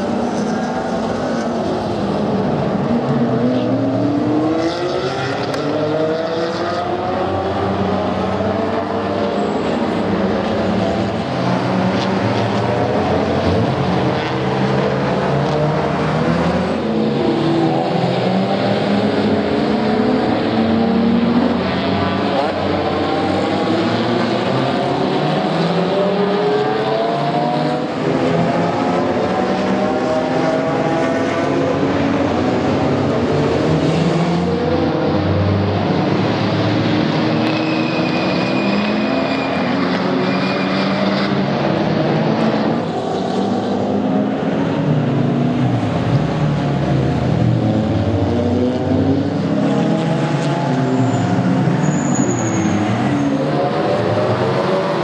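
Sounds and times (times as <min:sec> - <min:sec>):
racing car engines revving: 0:00.0 - 0:55.0.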